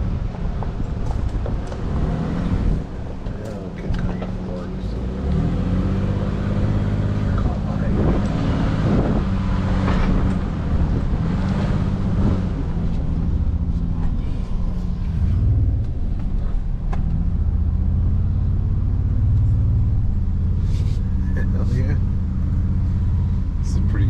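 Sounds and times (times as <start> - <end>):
pickup engine running low: 0.0 - 24.0.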